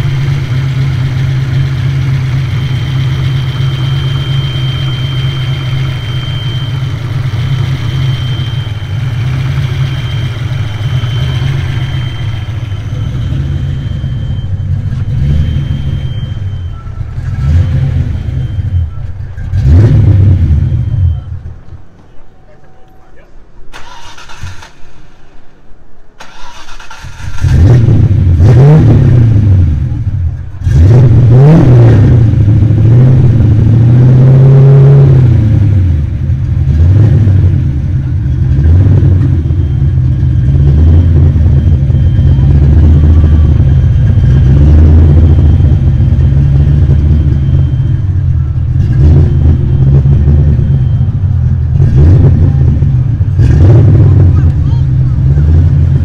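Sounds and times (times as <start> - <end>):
car engine starting and revving: 0.0 - 21.6, 23.7 - 25.3, 26.2 - 56.0.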